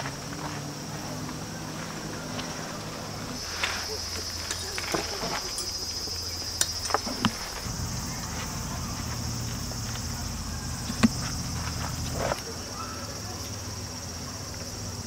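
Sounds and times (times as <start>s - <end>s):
cicadas singing: 0.0s - 15.0s
low hum: 0.7s - 12.8s.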